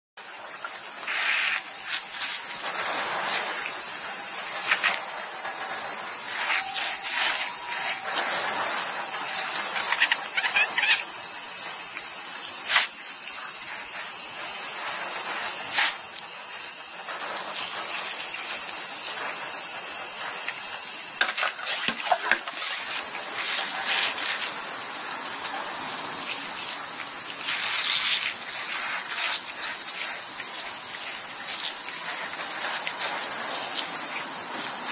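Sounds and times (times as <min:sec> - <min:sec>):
insects chorus: 0:00.2 - 0:34.9
shower water pattering on fur: 0:00.2 - 0:34.9.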